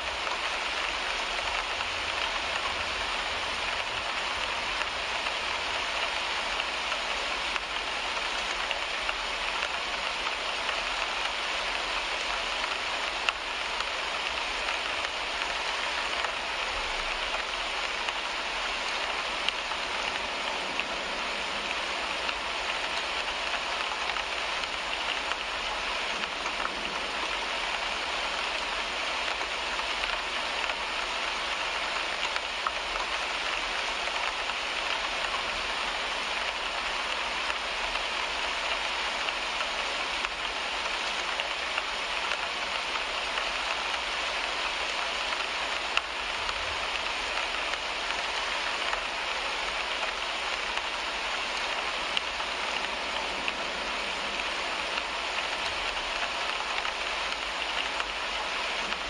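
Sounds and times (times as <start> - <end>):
rain on a car windshield: 0.0 - 59.0.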